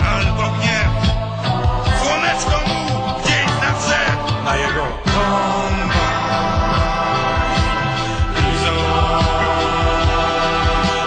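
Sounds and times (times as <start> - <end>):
rock music with drum beat: 0.0 - 11.0.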